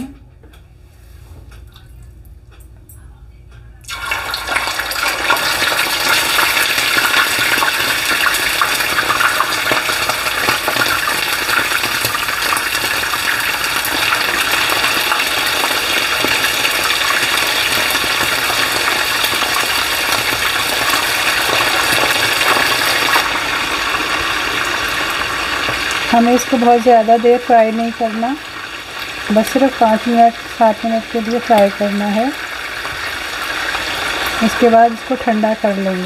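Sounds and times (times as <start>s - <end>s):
hot oil sizzling and crackling: 3.9s - 36.0s.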